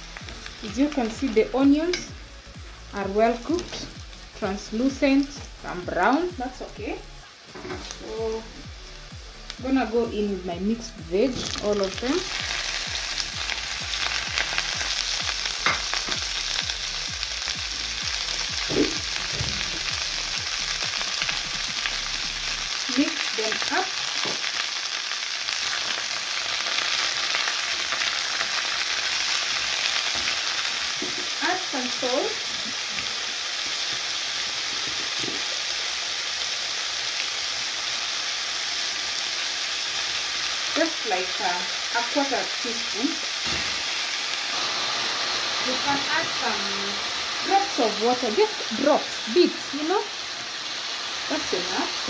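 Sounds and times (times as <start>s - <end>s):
vegetables sizzling in hot oil: 0.0s - 52.0s.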